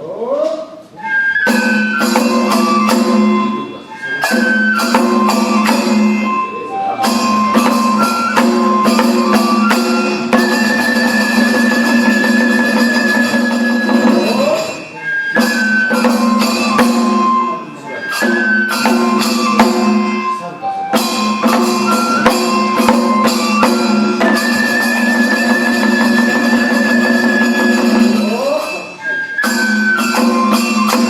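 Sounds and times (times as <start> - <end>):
high wind instrument melody: 0.8 - 31.0
drum strikes: 1.4 - 31.0.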